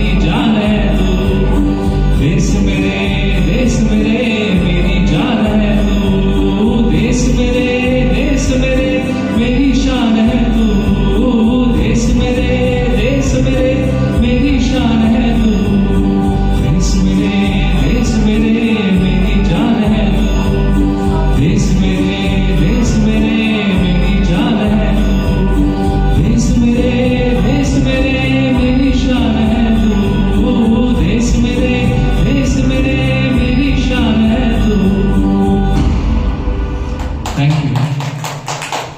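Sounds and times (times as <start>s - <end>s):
person singing over backing track: 0.0s - 37.6s.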